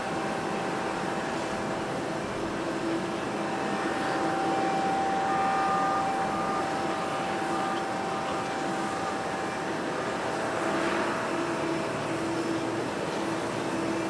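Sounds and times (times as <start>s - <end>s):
higher engine tone: 0.0s - 14.0s
jet engines whining: 0.0s - 14.0s.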